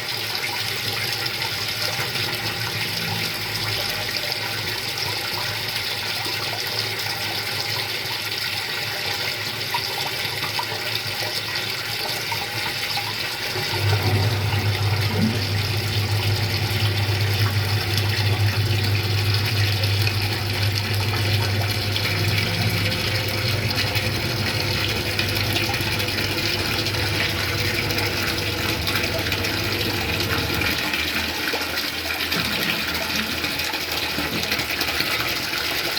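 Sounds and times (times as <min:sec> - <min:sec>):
pump humming: 0:00.0 - 0:08.0, 0:10.7 - 0:35.9
water pouring into drum: 0:00.0 - 0:35.9.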